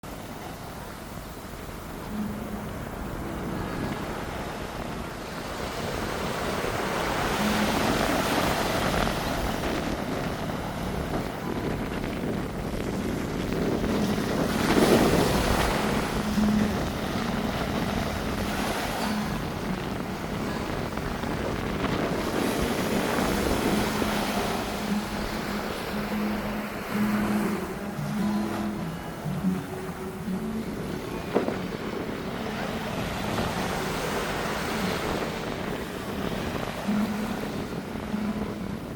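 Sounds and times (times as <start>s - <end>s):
sea waves rushing: 0.0s - 38.9s
wind buffeting microphone: 0.0s - 38.9s.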